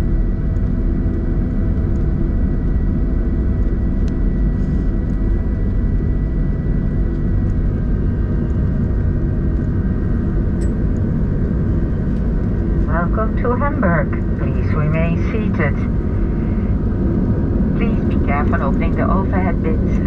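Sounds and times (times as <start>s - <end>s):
aircraft cabin engine rumble: 0.0s - 20.0s
faint high engine whine: 0.0s - 20.0s.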